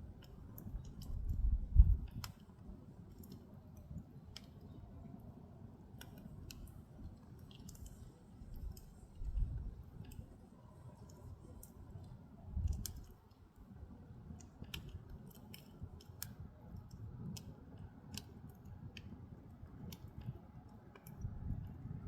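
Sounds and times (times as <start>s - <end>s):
firewood crackling and popping: 0.0s - 10.4s, 11.0s - 21.8s
low rumble of fire: 0.0s - 22.0s.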